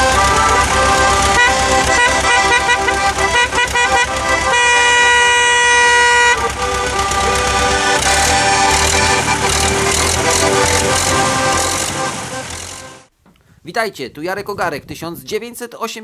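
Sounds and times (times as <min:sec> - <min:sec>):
accordion playing a tune: 0:00.0 - 0:13.1.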